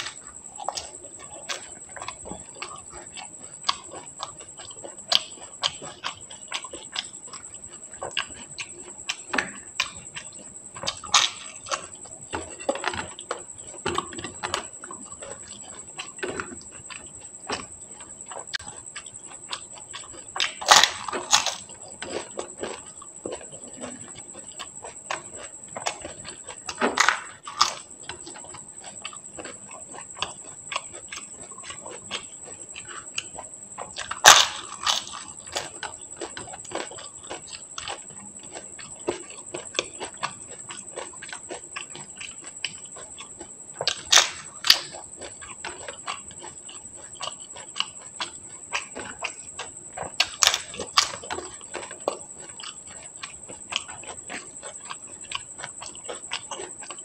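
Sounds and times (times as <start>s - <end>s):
chewing and wet mouth sounds: 0.0s - 57.0s
crunching crisp food: 0.0s - 57.0s.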